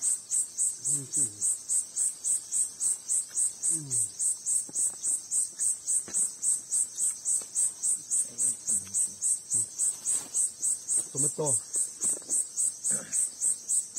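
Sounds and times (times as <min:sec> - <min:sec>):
insect chirping: 0:00.0 - 0:13.9.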